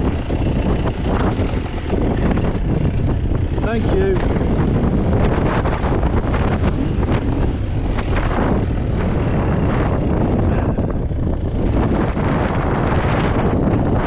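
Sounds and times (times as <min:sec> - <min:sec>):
motorcycle engine running: 0:00.0 - 0:14.0
wind rumbling on microphone: 0:00.0 - 0:14.0.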